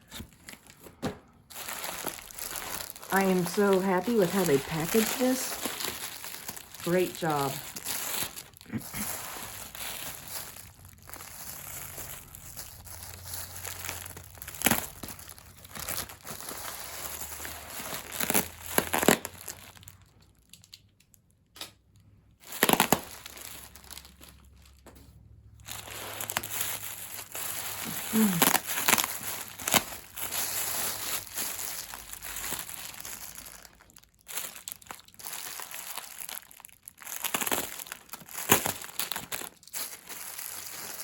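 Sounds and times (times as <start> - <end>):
packaging crinkling: 0.0 - 20.8, 22.4 - 24.8, 25.6 - 41.0.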